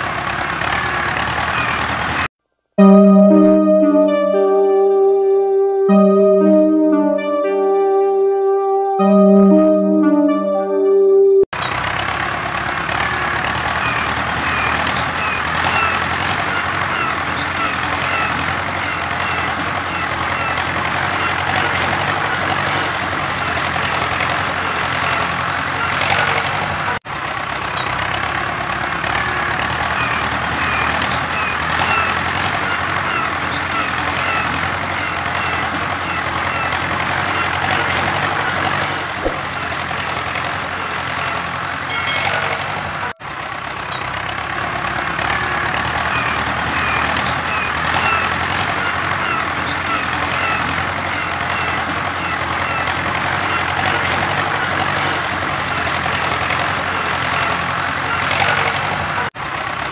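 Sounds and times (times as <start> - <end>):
tractor engine humming: 0.0 - 59.9.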